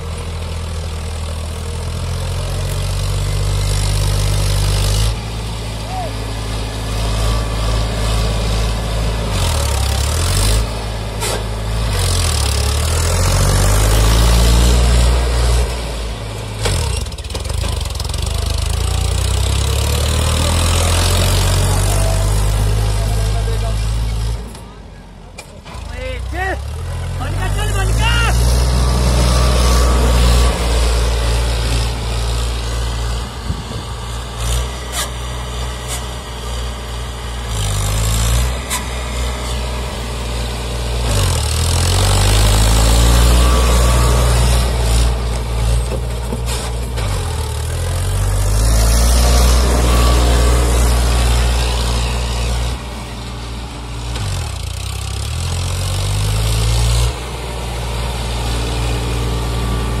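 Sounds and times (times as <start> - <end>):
tractor diesel engine under load: 0.0 - 60.0.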